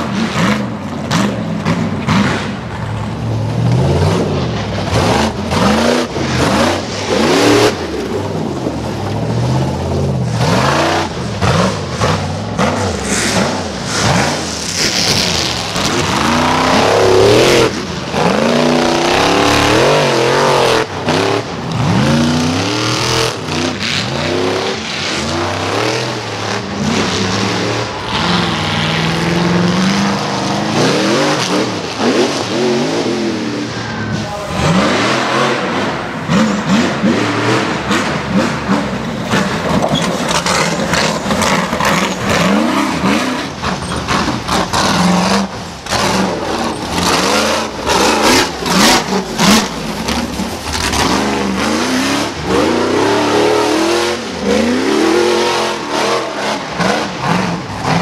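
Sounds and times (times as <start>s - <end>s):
buggy engines revving: 0.0s - 58.0s.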